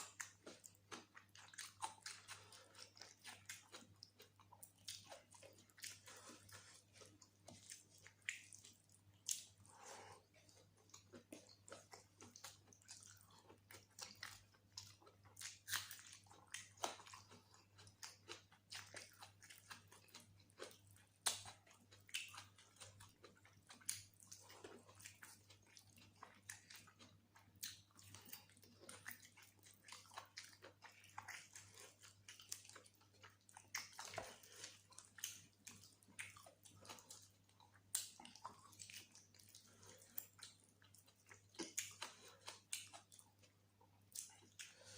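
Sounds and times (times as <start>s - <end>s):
close chewing and mouth sounds: 0.0s - 44.9s.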